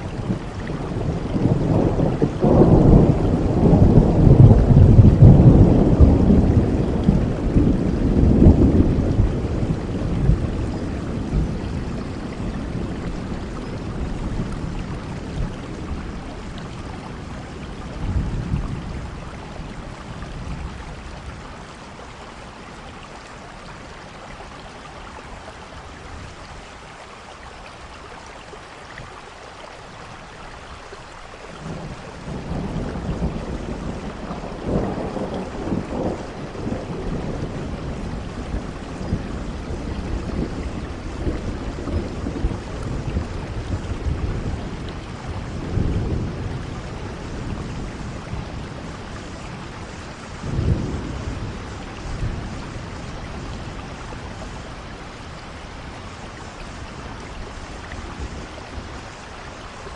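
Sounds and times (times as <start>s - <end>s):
rolling thunder rumble: 0.0s - 24.5s, 31.5s - 59.9s
rain falling: 0.0s - 59.9s.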